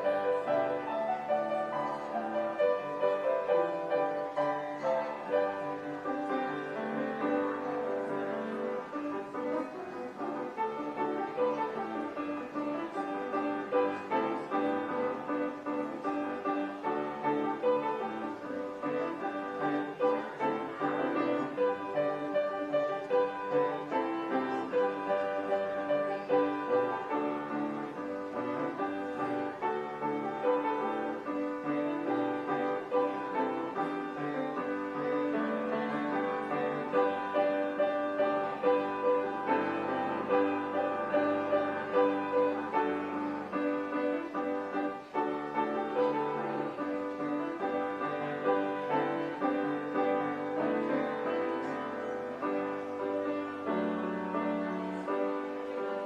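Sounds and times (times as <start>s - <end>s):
slow piano music: 0.0s - 56.0s.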